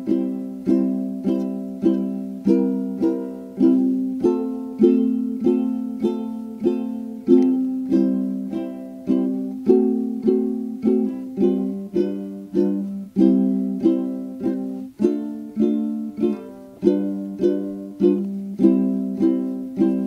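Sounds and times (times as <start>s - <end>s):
plucked string instrument tune: 0.0s - 20.0s.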